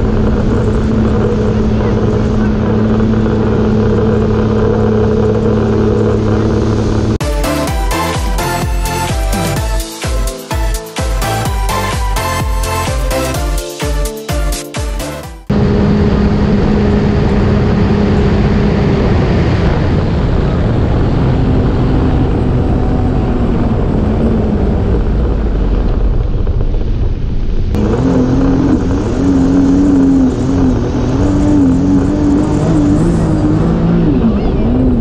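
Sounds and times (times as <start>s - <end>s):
jet ski engine at speed: 0.0s - 13.6s, 15.4s - 35.0s.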